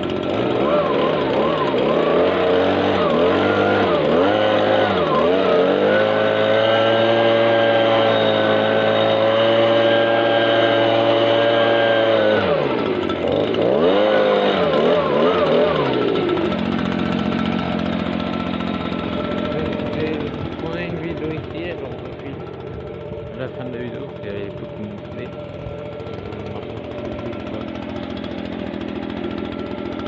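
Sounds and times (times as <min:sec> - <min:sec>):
leaf blower engine revving: 0:00.0 - 0:30.0.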